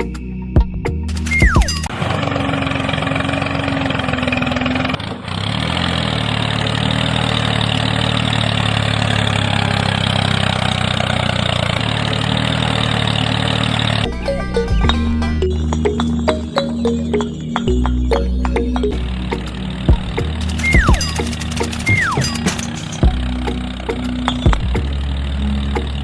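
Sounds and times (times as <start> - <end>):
engine running: 0.9 - 26.0.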